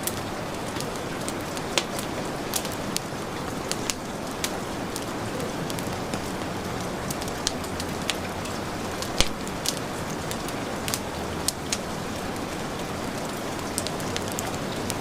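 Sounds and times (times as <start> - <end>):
fireplace fire crackling: 0.0 - 15.0
heavy rain falling: 0.0 - 15.0.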